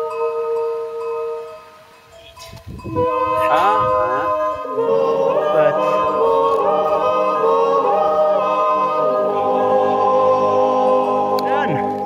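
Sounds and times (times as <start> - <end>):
choir singing held chords: 0.0 - 2.2, 2.8 - 12.0.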